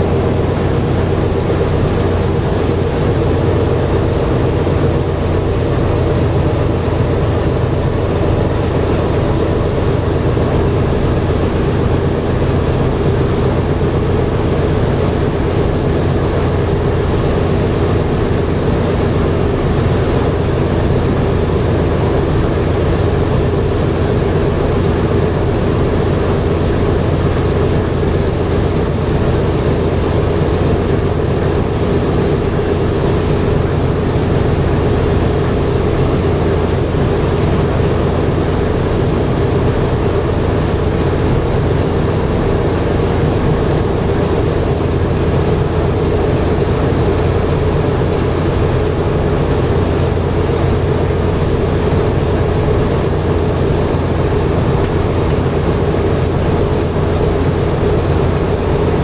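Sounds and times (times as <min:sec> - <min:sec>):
radial aircraft engines droning: 0:00.0 - 0:59.0.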